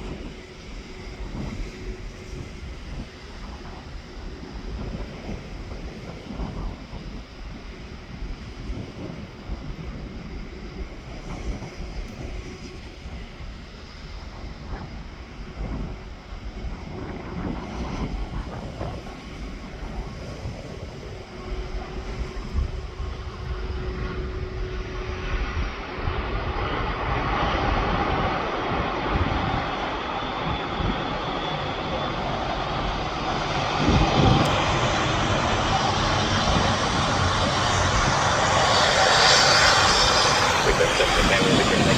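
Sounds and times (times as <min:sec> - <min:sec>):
aircraft engines: 0:00.0 - 0:41.9
wind buffeting microphone: 0:00.0 - 0:41.9.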